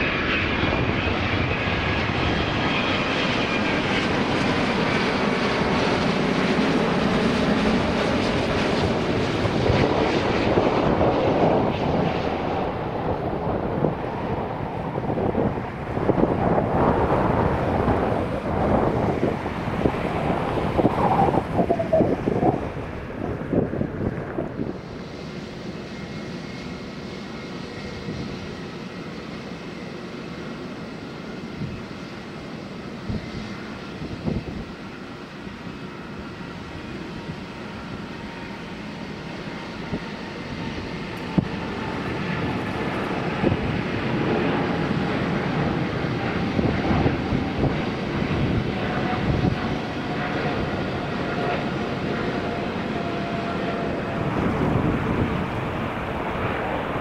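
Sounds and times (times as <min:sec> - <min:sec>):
jet engine roar with high whine: 0:00.0 - 0:57.0
wind buffeting microphone: 0:00.4 - 0:26.6, 0:30.9 - 0:32.0, 0:33.0 - 0:57.0.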